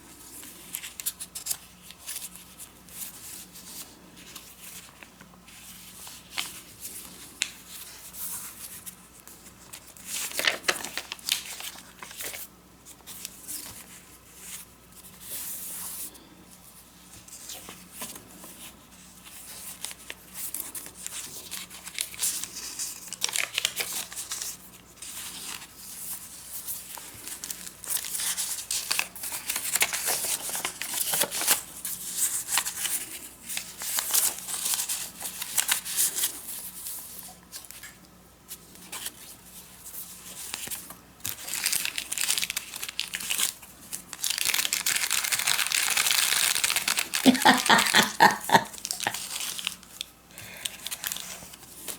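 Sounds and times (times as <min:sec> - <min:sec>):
paper pages rustling: 0:00.2 - 0:16.0, 0:17.1 - 0:51.9.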